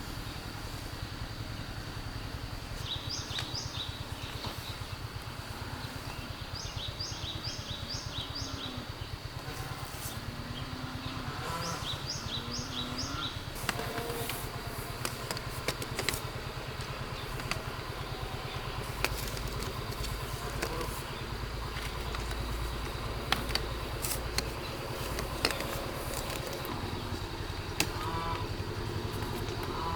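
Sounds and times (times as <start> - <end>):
small engine running: 0.0 - 29.9
bird chirping: 2.1 - 29.9.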